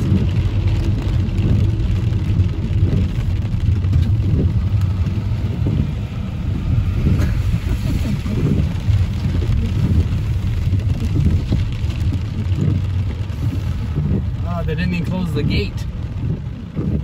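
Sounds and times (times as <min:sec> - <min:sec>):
car cabin rumble: 0:00.0 - 0:17.0
heavy rain: 0:00.0 - 0:17.0
tyres on wet road: 0:00.0 - 0:17.0.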